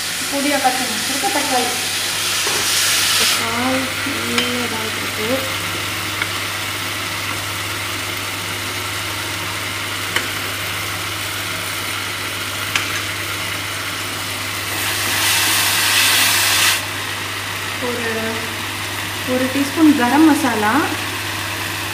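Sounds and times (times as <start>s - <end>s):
vegetables sizzling in a pan: 0.0s - 21.9s.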